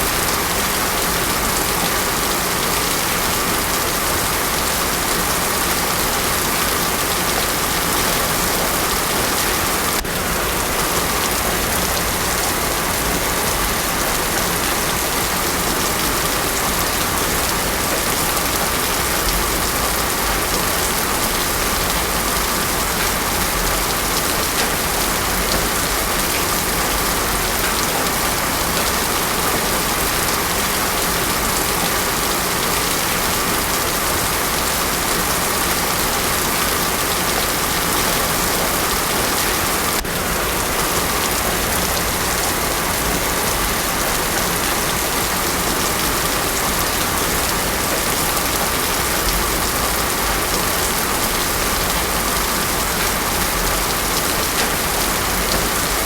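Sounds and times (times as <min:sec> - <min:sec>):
heavy rain pouring on road: 0:00.0 - 0:56.0.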